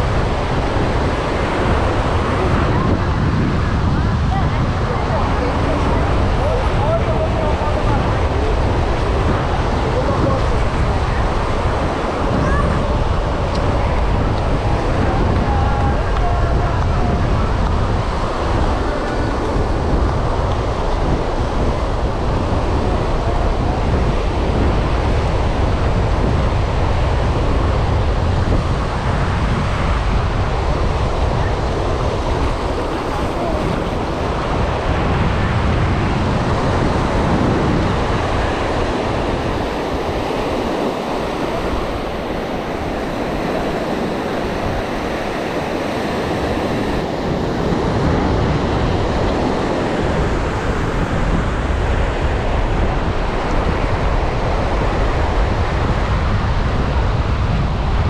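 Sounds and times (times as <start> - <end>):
ocean surf: 0.0 - 58.0
wind buffeting microphone: 0.0 - 58.0.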